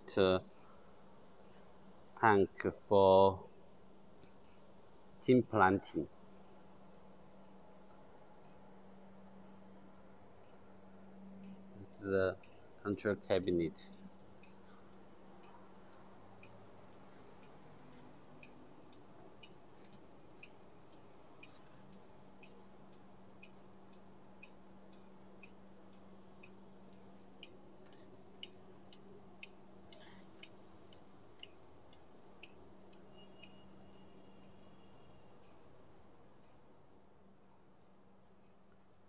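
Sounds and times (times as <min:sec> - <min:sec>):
faint regular ticking: 0:00.0 - 0:39.0
steady low hum: 0:00.0 - 0:39.0.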